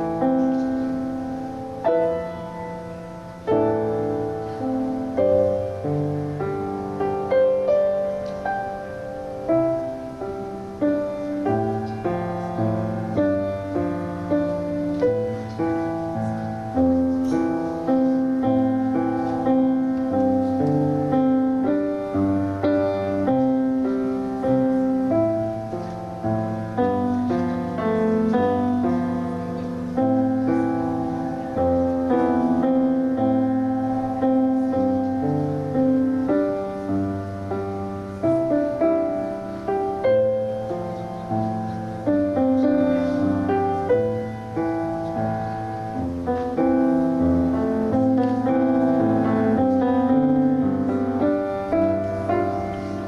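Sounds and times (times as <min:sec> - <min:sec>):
slow gentle piano piece: 0:00.0 - 0:53.0.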